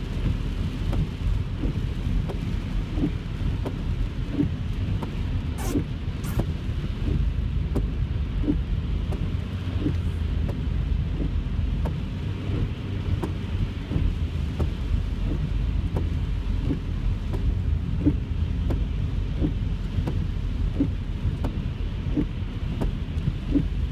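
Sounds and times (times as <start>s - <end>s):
heavy rain: 0.0s - 23.9s
road noise inside car: 0.0s - 23.9s.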